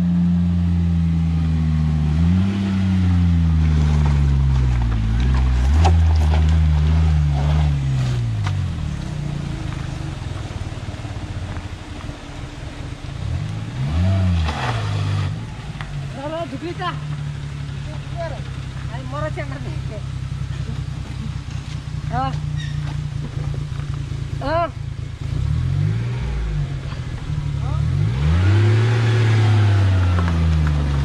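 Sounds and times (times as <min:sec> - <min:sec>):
van engine pulling uphill: 0:00.0 - 0:31.0.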